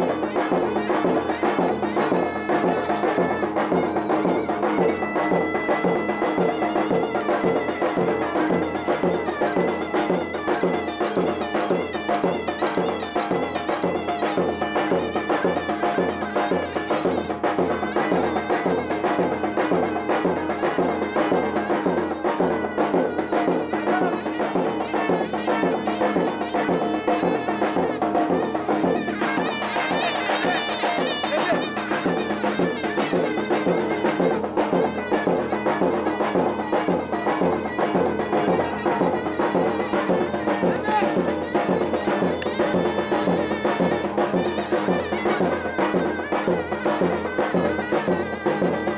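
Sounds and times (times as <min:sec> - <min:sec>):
shrill reed pipe melody: 0:00.0 - 0:48.9
steady drum beat: 0:00.0 - 0:48.9.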